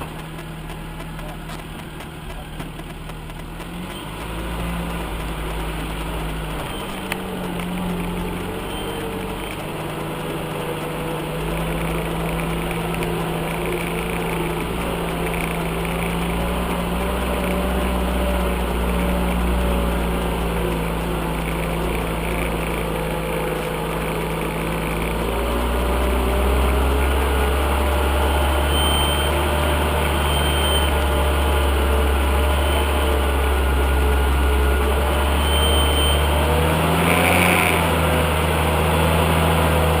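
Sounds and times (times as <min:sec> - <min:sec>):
off-road vehicle engine running: 0:00.0 - 0:40.0.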